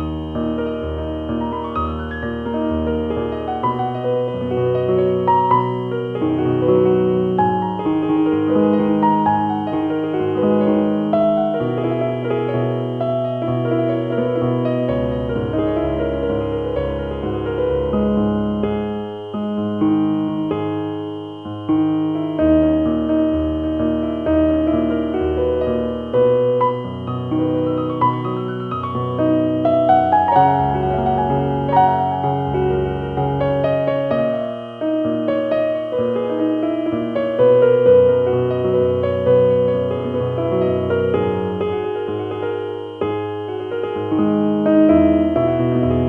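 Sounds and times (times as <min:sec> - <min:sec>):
piano music: 0:00.0 - 0:46.0.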